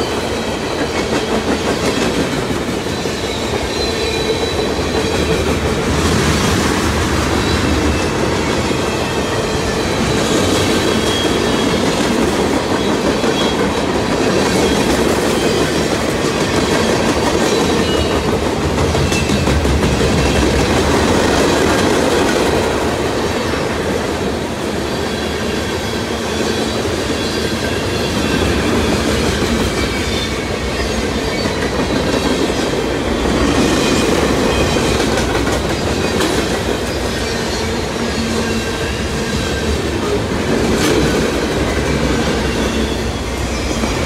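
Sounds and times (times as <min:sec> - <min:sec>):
freight train wheels rumbling: 0:00.0 - 0:44.0.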